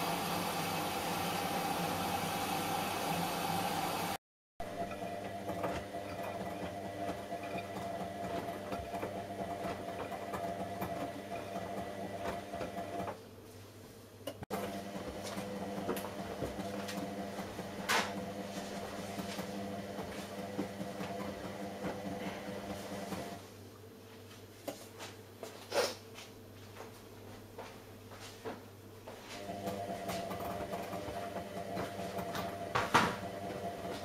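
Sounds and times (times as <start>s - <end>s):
washing machine motor hum: 0.0s - 13.3s, 14.2s - 23.5s, 29.2s - 34.0s.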